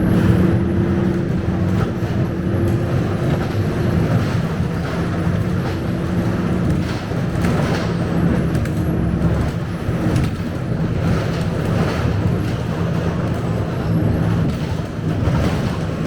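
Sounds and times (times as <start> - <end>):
bus engine hum: 0.0 - 16.0
road noise: 0.0 - 16.0.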